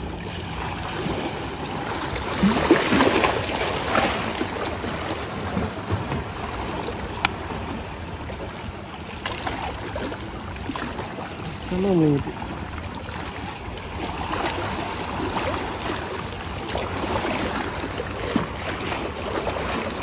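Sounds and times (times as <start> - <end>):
waves washing against rocks: 0.0 - 20.0.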